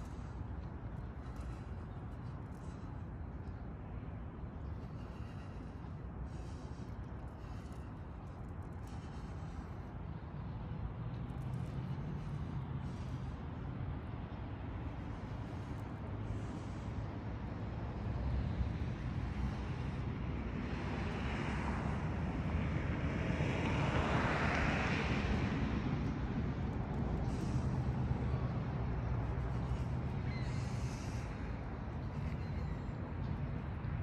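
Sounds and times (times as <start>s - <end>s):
background rumble and hiss: 0.0s - 20.6s, 25.4s - 34.0s.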